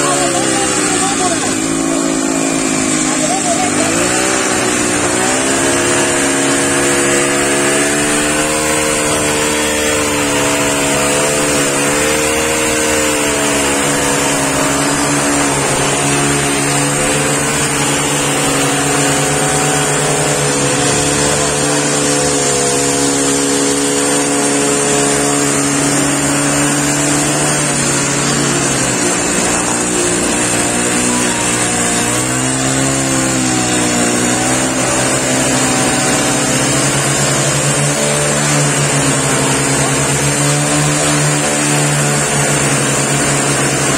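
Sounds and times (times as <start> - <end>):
ballast tamper engine running: 0.0 - 43.9.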